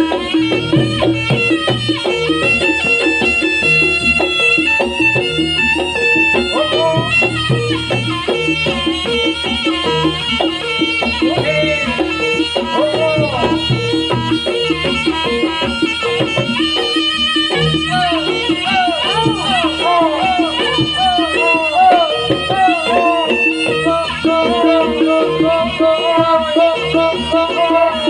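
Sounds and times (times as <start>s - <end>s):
gamelan struck tones: 0.0s - 27.6s
drum strokes: 0.0s - 27.9s
wavering gliding melody: 0.0s - 28.0s.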